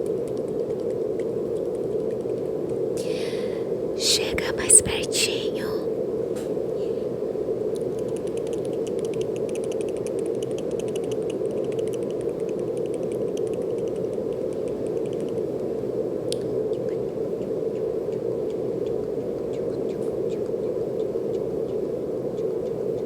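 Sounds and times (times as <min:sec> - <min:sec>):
brown noise hiss: 0:00.0 - 0:23.0.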